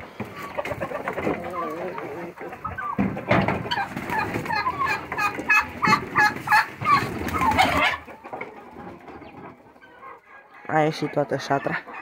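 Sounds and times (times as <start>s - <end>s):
chickens and turkeys calling: 0.0s - 12.0s.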